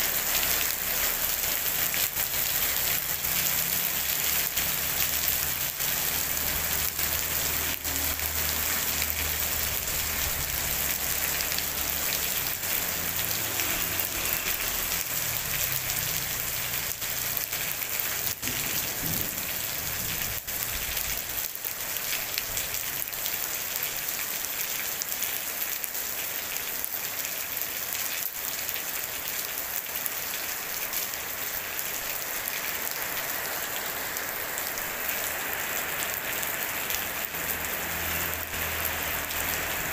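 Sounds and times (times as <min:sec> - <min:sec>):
rain on wet pavement: 0:00.0 - 0:39.9.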